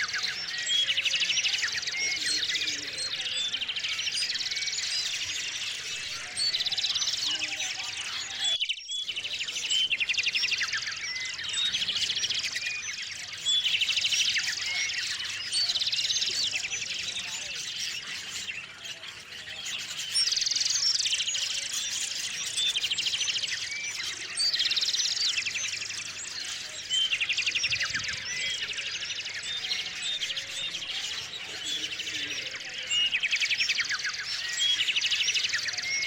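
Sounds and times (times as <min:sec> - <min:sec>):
fast trilled birdsong: 0:00.0 - 0:36.0
songbirds chirping: 0:00.0 - 0:36.0.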